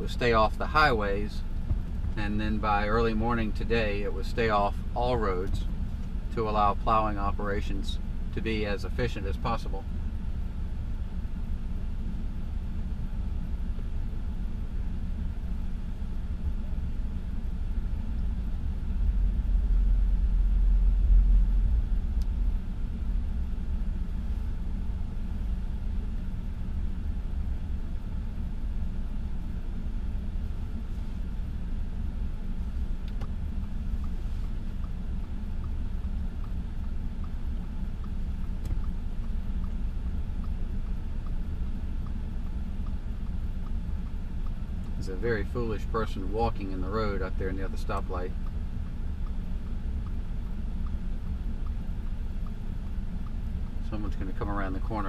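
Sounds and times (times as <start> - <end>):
car interior engine rumble: 0.0 - 55.0.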